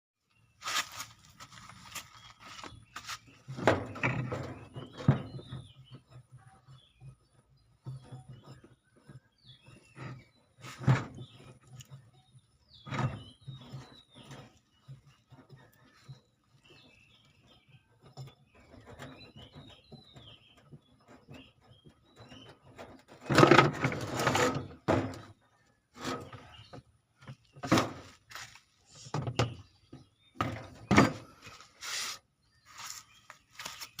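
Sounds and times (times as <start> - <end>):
scraping on washing machine pulsator: 1.7 - 32.1.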